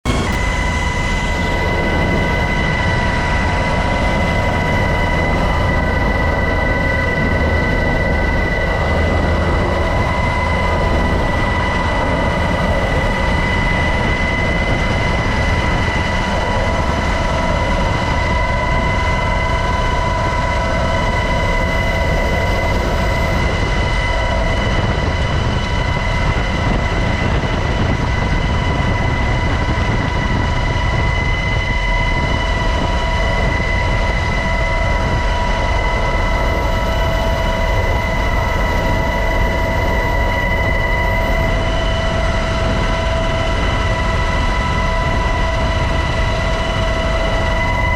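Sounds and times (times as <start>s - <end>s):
helicopter rotor rumble: 0.0s - 47.9s
high turbine whine: 0.0s - 47.9s.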